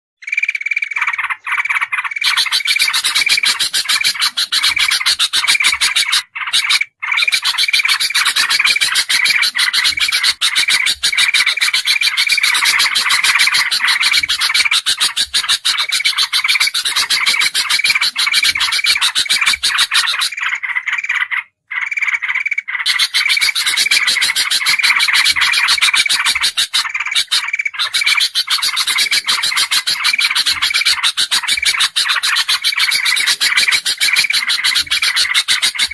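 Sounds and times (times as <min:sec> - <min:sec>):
bulbul chattering calls: 0:00.3 - 0:35.9.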